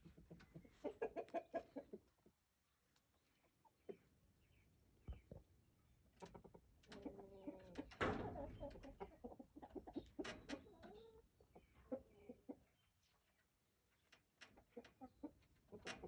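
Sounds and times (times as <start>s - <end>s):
chickens clucking: 0.0s - 4.2s, 6.0s - 16.0s.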